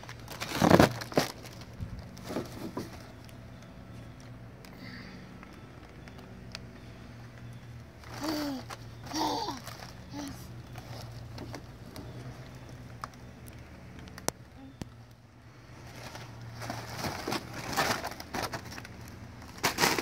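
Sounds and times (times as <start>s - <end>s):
foil balloons crinkling: 0.0s - 20.0s.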